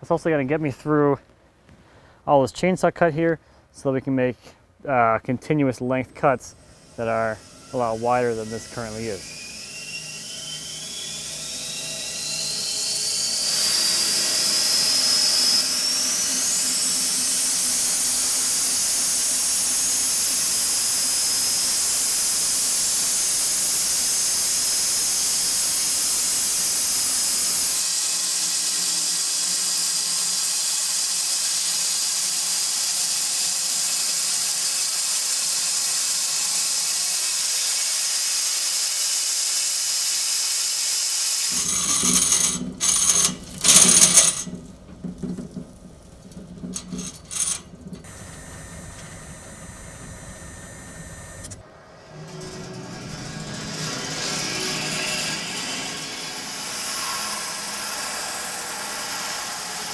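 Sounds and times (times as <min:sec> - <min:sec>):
bandsaw mill cutting log: 0:06.1 - 0:59.9.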